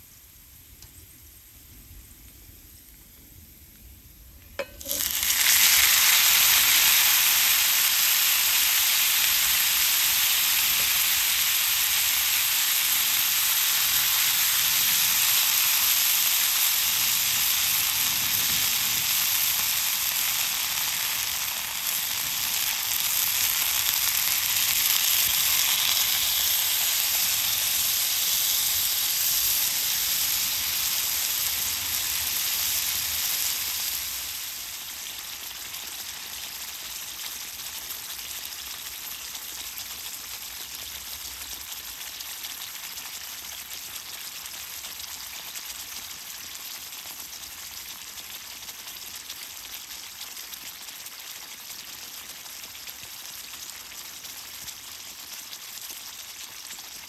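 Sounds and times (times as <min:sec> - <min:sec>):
food sizzling in a pan: 0:04.6 - 0:57.0.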